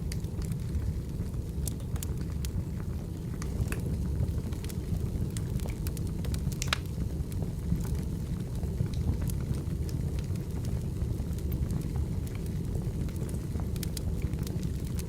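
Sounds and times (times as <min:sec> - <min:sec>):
fire rumbling: 0:00.0 - 0:15.0
firewood crackling and popping: 0:00.0 - 0:15.0.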